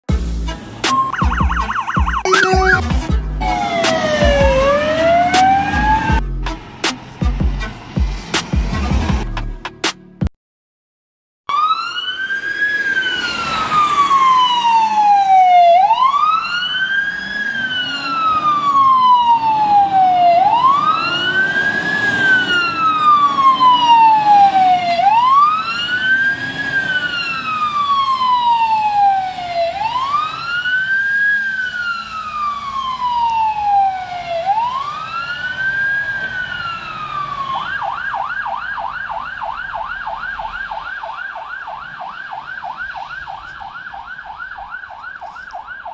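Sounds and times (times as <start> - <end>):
truck engine: 0.1 - 10.0, 12.2 - 45.9
fire engine siren: 0.8 - 8.3, 11.5 - 45.9.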